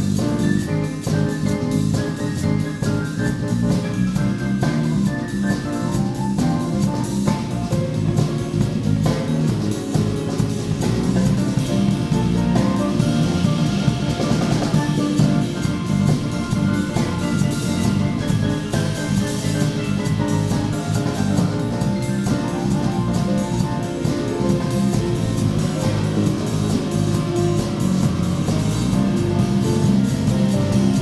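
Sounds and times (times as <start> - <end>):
jazz trio playing: 0.0 - 31.0.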